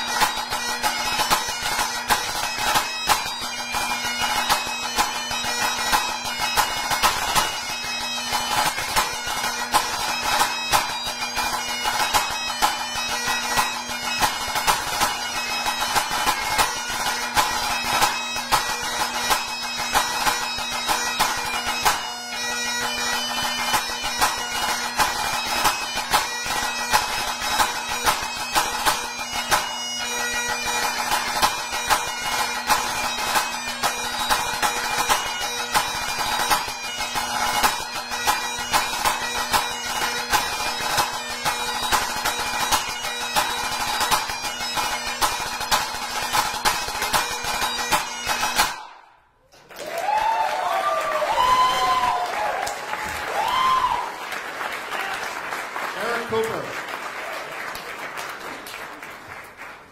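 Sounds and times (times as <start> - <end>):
bagpipes playing: 0.0 - 49.1.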